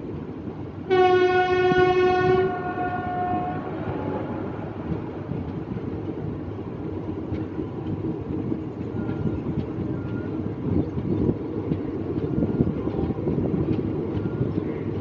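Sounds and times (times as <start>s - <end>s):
train wheels rumbling on track: 0.0s - 15.0s
wind rushing past microphone: 2.3s - 15.0s.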